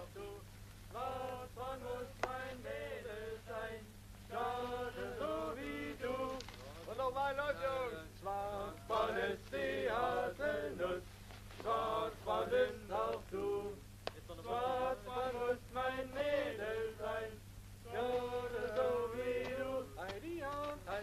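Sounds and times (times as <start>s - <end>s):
man singing unaccompanied: 0.0s - 11.0s, 11.6s - 21.0s.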